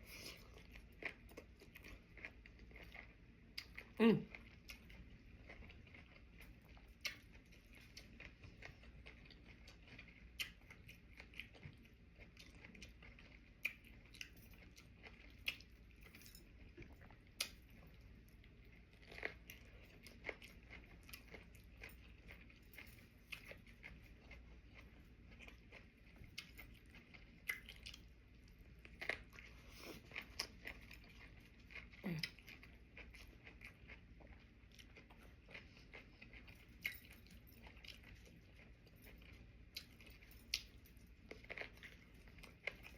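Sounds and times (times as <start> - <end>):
chewing and biting food: 0.0 - 42.9
low steady hum: 0.0 - 42.9.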